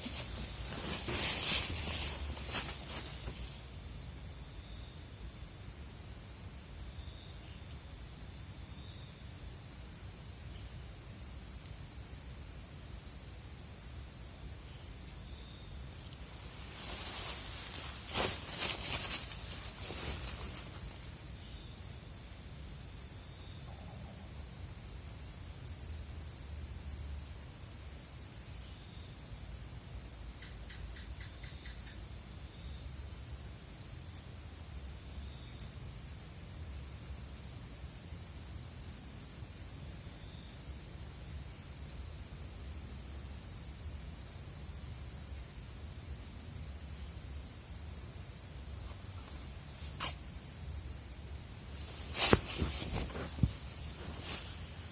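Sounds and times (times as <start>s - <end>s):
crickets trilling: 0.0s - 54.9s
insects chirping: 0.0s - 54.9s.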